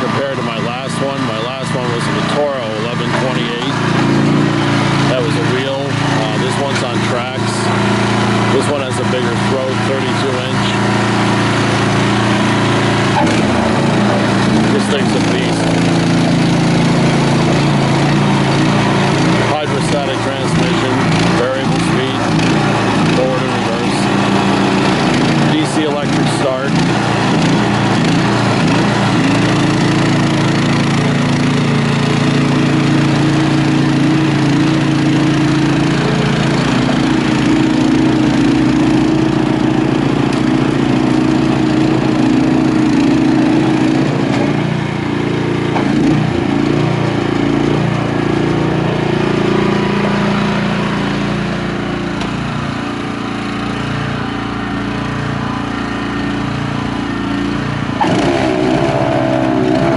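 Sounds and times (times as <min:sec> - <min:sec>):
snowblower engine running: 0:00.0 - 0:59.9.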